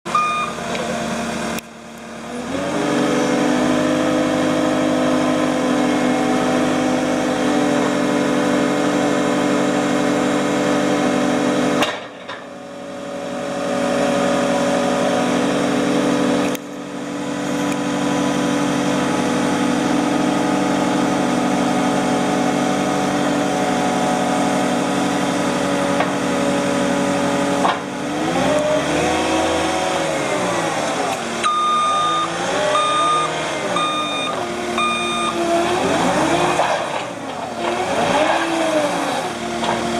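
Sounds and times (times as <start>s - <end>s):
diesel engine revving: 0.1s - 39.9s.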